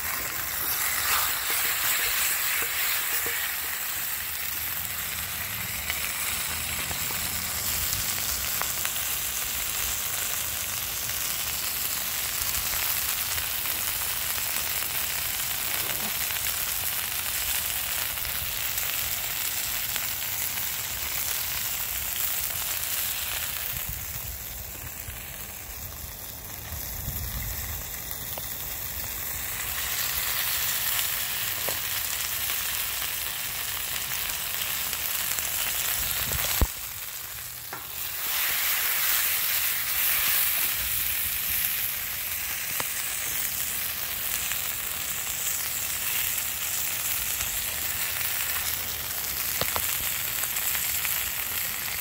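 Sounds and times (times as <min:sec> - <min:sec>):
chicken sizzling in oil: 0:00.0 - 0:52.0.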